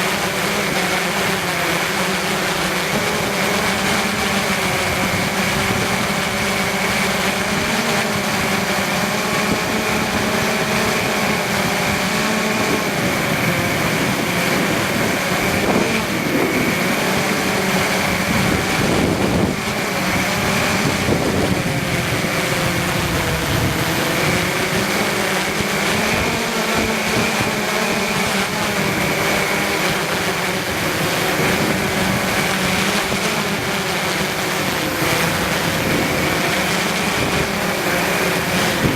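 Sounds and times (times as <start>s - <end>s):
drone motors and propellers humming: 0.0s - 38.9s
low wind rumble: 4.1s - 38.9s.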